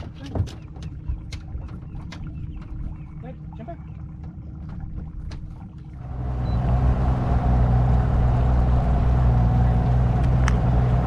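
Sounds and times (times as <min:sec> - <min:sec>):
boat motor running: 0:00.0 - 0:11.0
water noise: 0:00.0 - 0:11.0
wind: 0:00.0 - 0:11.0.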